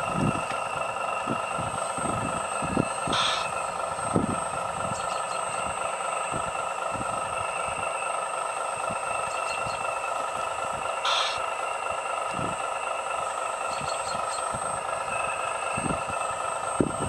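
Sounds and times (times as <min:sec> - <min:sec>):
model excavator motors whining: 0:00.0 - 0:17.0.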